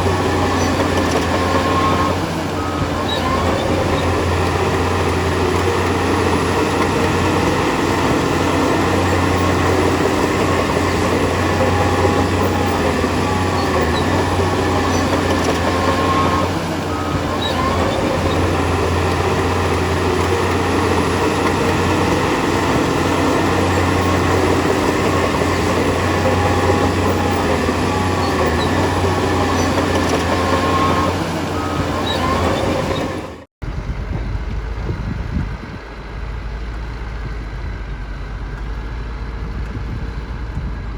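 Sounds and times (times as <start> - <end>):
steel tracks clanking and squealing: 0.0 - 33.5
diesel engine running under load: 0.0 - 40.9.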